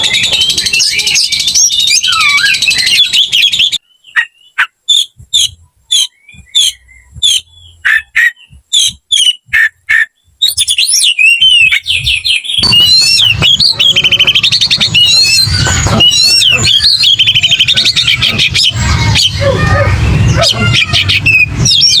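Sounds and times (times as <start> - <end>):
sharp whistled bird notes: 0.0 - 19.4
bird warbling song: 0.0 - 22.0.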